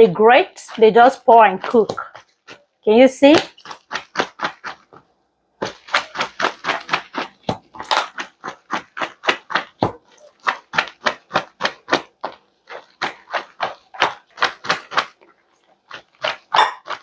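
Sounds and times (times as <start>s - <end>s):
hands squelching okra in water: 0.5s - 17.0s.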